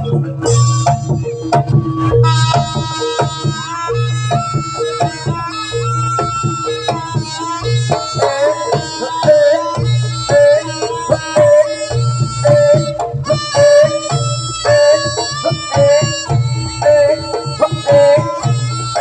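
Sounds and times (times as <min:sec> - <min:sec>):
hand drums: 0:00.0 - 0:19.0
pitched melody: 0:00.0 - 0:19.0.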